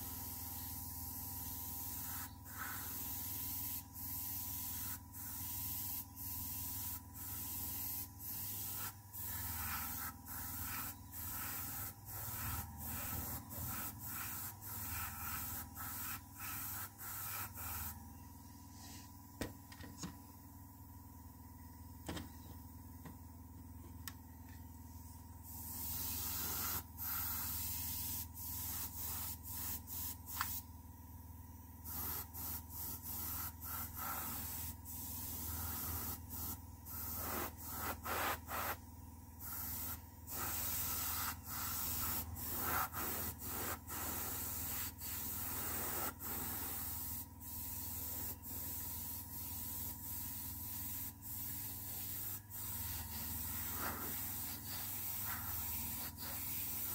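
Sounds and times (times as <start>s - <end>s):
airbrush spraying in hissing bursts: 0.0s - 18.0s, 25.0s - 30.7s, 31.8s - 38.8s, 39.4s - 56.9s.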